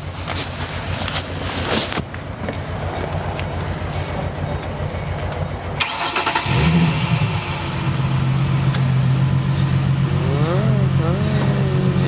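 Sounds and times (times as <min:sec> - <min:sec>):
engine cranking and idling: 0:00.0 - 0:12.0.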